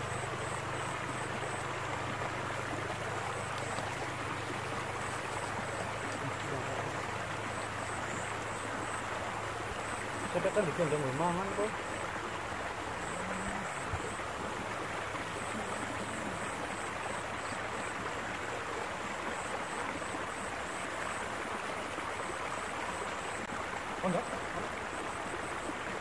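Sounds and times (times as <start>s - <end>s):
water rushing in a canal: 0.0s - 26.0s.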